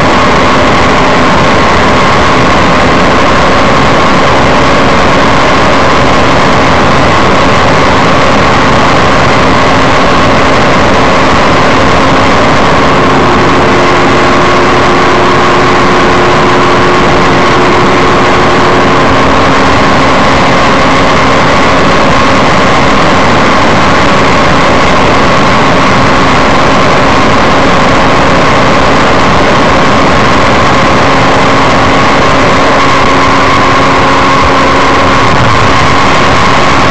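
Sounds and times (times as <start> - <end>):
light aircraft engine humming: 0.0 - 36.9
wind rush: 0.0 - 36.9.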